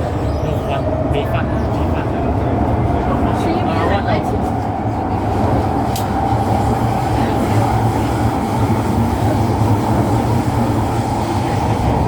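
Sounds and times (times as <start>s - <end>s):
train running from inside carriage: 0.0s - 12.0s.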